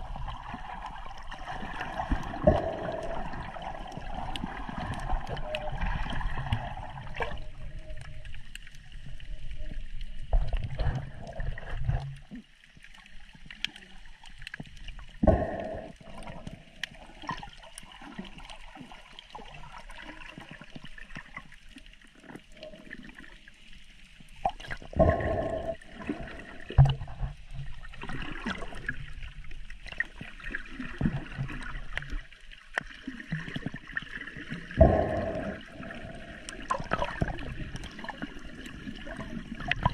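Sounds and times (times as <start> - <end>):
water sloshing and gurgling: 0.0 - 39.9
water splashes: 0.0 - 39.9.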